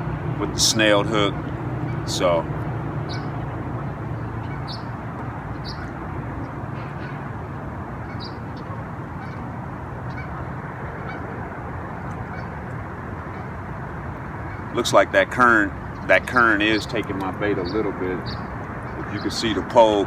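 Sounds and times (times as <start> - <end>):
birds calling: 0.0 - 20.0
steady background rumble: 0.0 - 20.0.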